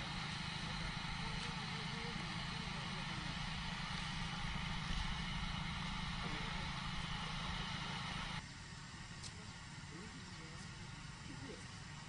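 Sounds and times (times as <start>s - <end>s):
steady hiss: 0.0s - 12.0s
vehicle engine rumbling: 0.0s - 12.0s.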